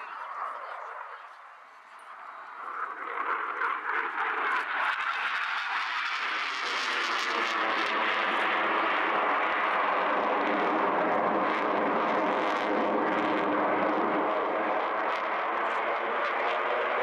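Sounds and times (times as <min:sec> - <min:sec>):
fighter jet engines roaring: 0:02.0 - 0:17.0.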